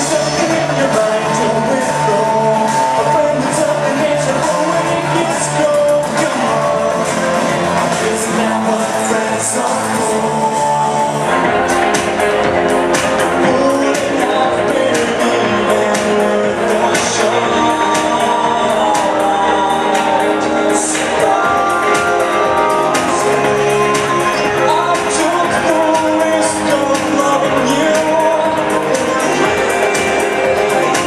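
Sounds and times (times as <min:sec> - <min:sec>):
person singing lead vocal: 0:00.0 - 0:31.0
rock band playing live: 0:00.0 - 0:31.0.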